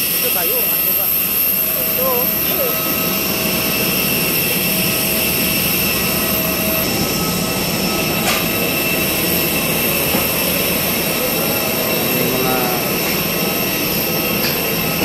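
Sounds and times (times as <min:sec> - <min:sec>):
jet turbine whining: 0:00.0 - 0:15.0.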